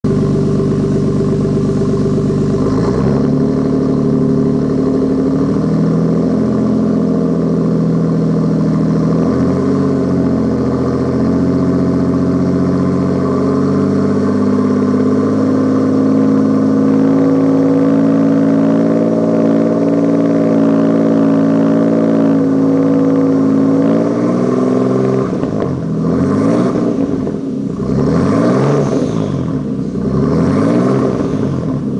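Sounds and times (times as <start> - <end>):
car engine revving through exhaust: 0.0 - 31.9.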